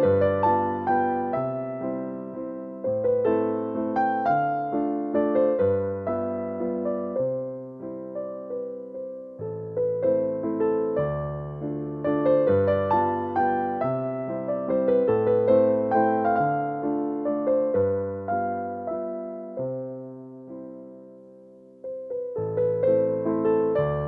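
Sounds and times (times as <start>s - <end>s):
solo electric piano melody: 0.0s - 24.0s.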